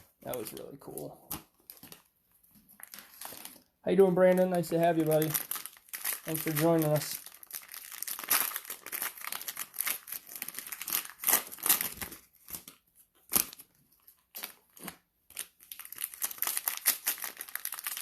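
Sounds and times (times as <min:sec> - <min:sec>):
plastic wrap crinkling and tearing: 0:00.0 - 0:18.0.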